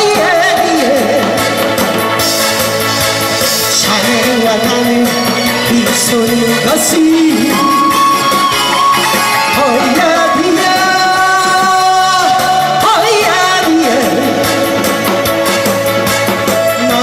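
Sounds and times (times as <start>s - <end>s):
woman singing into a microphone: 0.0s - 1.6s, 3.7s - 15.3s, 16.6s - 17.0s
amplified backing track: 0.0s - 17.0s.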